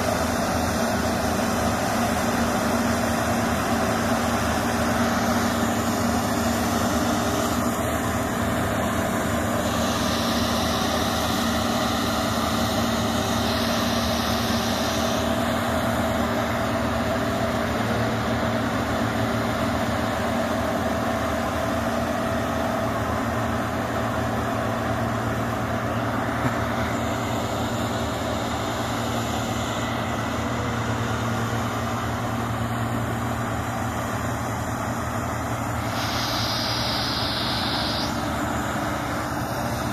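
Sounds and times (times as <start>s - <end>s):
diesel engines droning: 0.0s - 39.9s.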